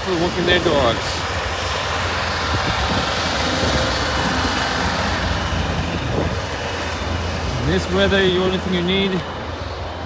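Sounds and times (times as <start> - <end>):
low traffic rumble: 0.0 - 10.0
traffic hiss: 0.0 - 10.0.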